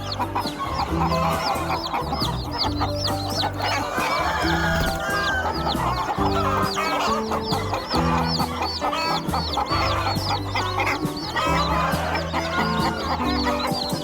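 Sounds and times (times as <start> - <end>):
background music with low notes: 0.0 - 14.0
chicks peeping: 0.0 - 14.0.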